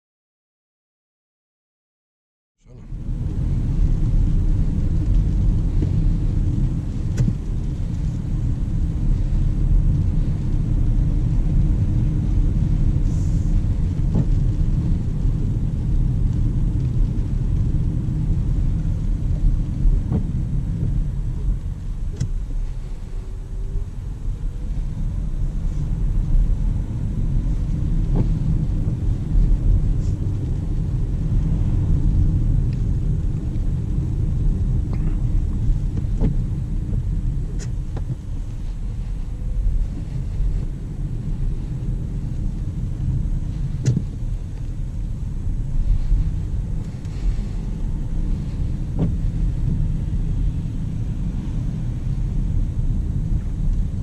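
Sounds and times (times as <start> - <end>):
road and tyre noise: 2.6 - 54.0.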